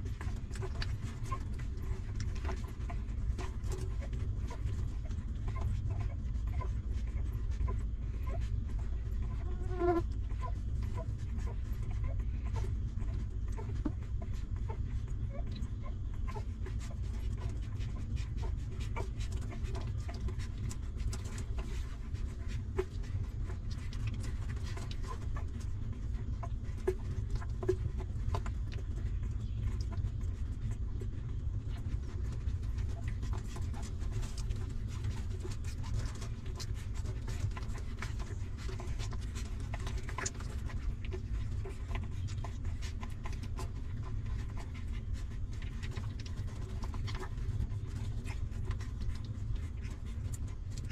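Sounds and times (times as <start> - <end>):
puppies suckling clicks and smacks: 0.0 - 50.9
steady low rumble: 0.0 - 50.9.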